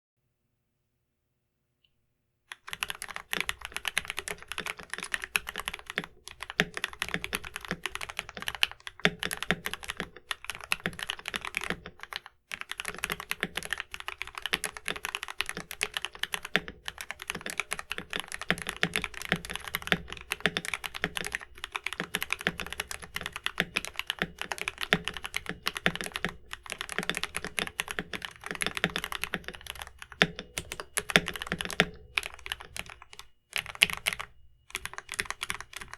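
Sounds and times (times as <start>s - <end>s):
fast typing on mechanical keyboard: 2.5s - 35.9s.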